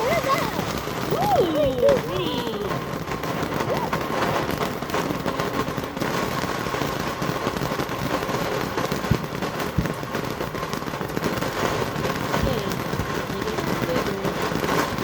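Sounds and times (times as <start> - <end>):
firework crackling: 0.0 - 15.0
firework pops: 0.0 - 15.0.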